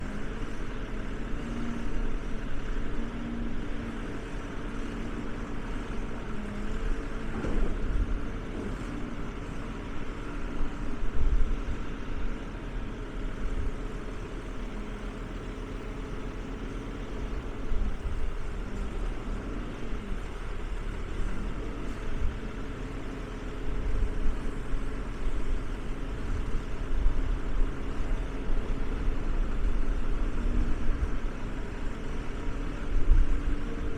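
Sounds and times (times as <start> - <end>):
log baler engine running: 0.0 - 33.9.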